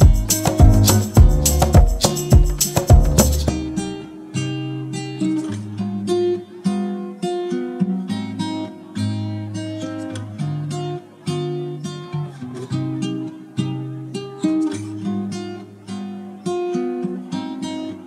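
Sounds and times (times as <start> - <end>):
acoustic guitar picked melody: 0.0 - 18.0.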